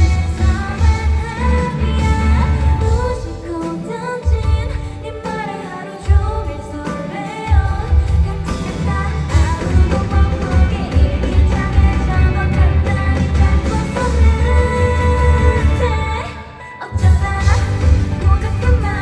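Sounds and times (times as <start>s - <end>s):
pop-rock band playing: 0.0s - 19.0s
woman singing: 0.0s - 19.0s.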